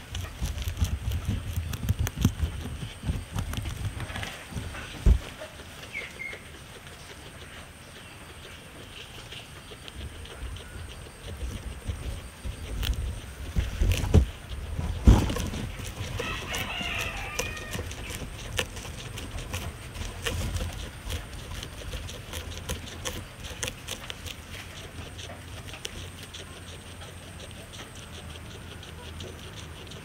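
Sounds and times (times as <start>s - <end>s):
guinea pigs chewing grass: 0.0s - 30.0s.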